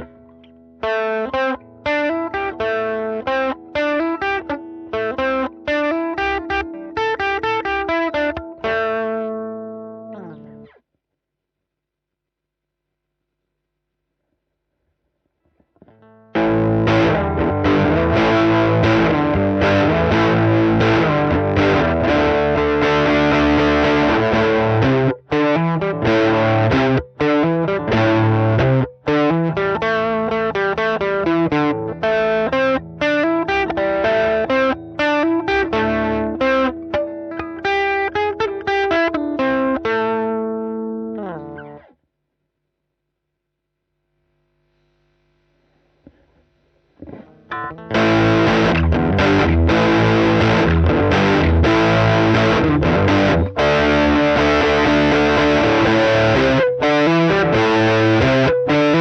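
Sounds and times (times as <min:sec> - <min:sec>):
distorted electric guitar: 0:00.0 - 0:10.8, 0:15.8 - 0:42.0, 0:44.3 - 0:59.0.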